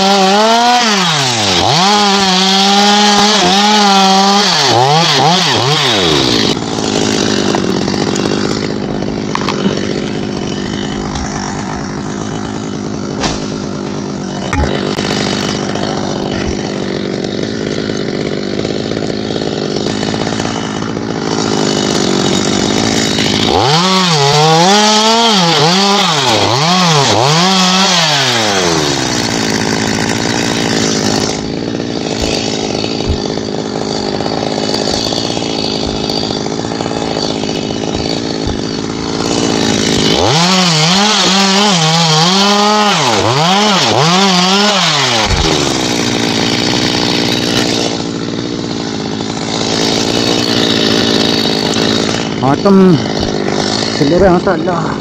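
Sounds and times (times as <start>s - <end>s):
chainsaw engine revving: 0.0s - 55.0s
chainsaw running: 0.0s - 55.0s.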